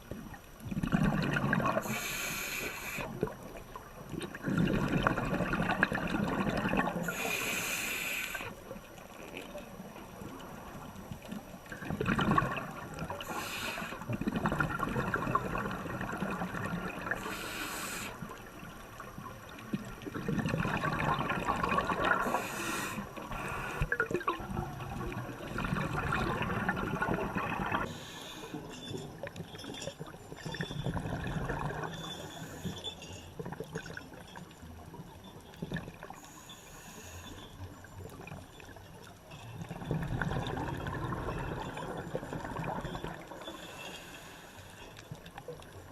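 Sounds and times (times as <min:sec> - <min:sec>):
water trickling and splashing: 0:00.0 - 0:45.9.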